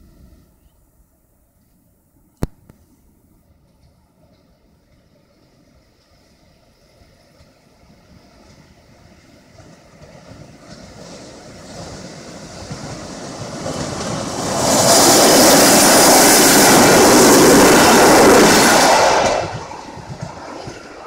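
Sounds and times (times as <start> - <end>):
electric train passing: 3.2 - 21.0.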